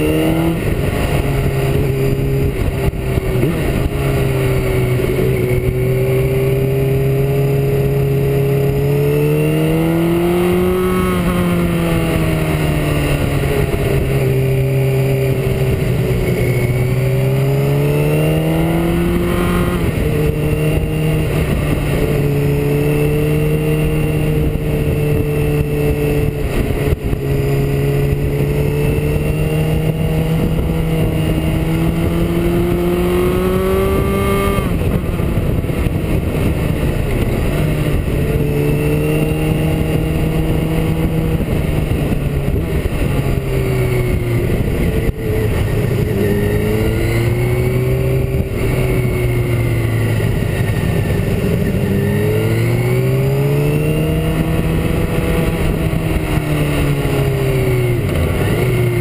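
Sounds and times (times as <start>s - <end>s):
motorcycle engine revving: 0.0s - 59.0s
wind noise: 0.0s - 59.0s.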